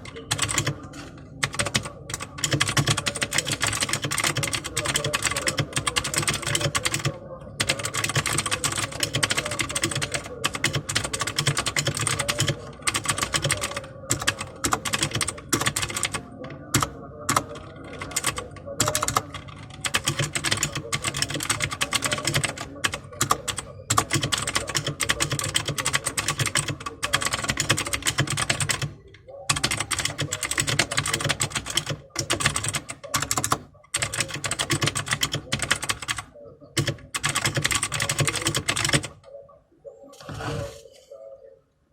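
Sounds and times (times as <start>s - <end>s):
mechanical keyboard typing: 0.0s - 39.2s.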